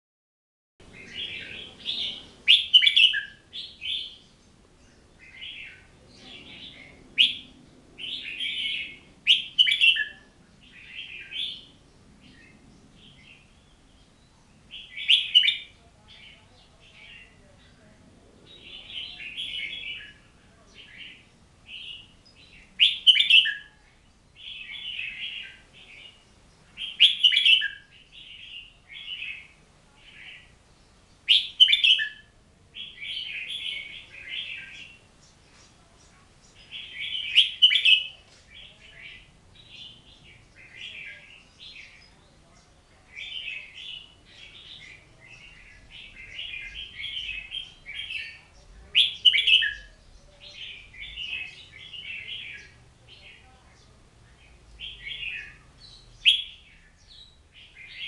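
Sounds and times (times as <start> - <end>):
bird singing warbled phrases: 0.8 - 58.0.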